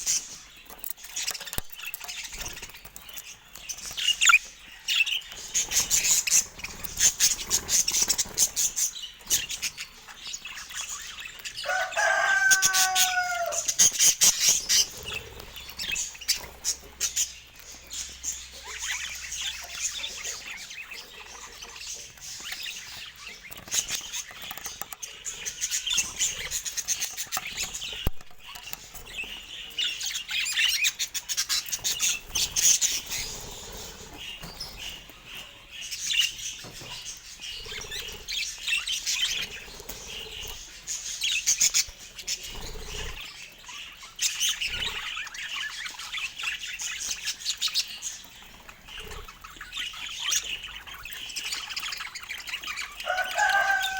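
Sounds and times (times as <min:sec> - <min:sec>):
budgerigars chirping and chattering: 0:00.0 - 0:53.9.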